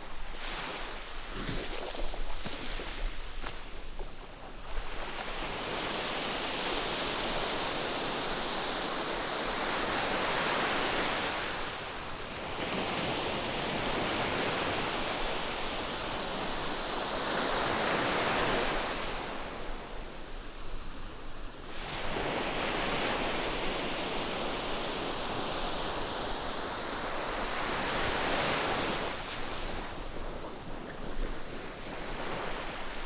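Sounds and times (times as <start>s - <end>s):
waves breaking on a beach: 0.0s - 33.0s.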